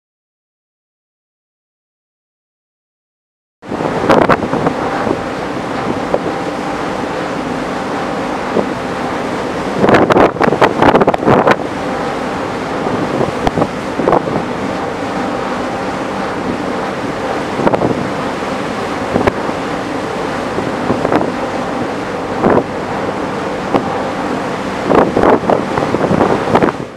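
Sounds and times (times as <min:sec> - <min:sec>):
rush of churning ship wake: 0:03.6 - 0:26.9
wind buffeting microphone: 0:03.6 - 0:26.9.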